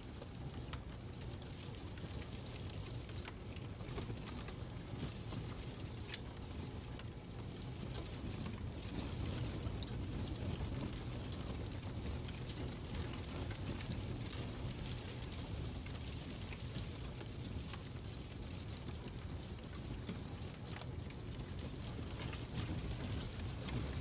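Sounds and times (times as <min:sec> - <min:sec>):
fireplace crackling: 0:00.0 - 0:24.0.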